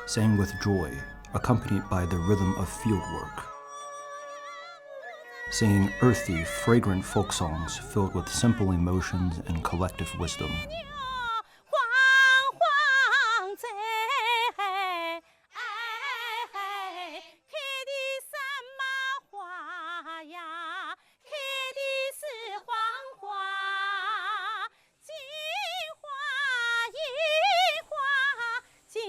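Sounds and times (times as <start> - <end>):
woman singing unaccompanied: 4.4 - 29.0.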